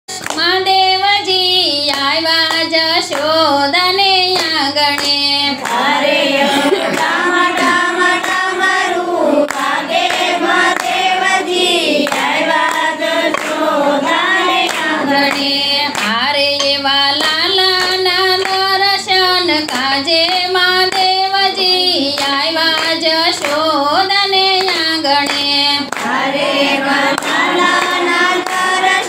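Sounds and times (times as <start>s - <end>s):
hand claps: 0.1s - 29.0s
woman singing devotional song: 0.1s - 29.0s
several voices singing: 1.2s - 29.0s.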